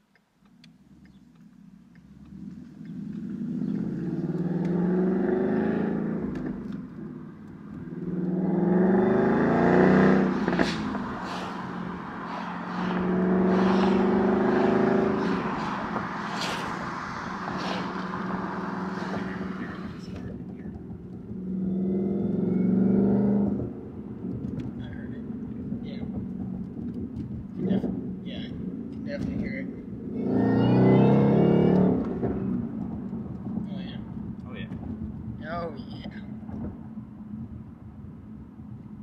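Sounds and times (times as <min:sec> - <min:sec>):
car engine accelerating: 0:00.5 - 0:35.4.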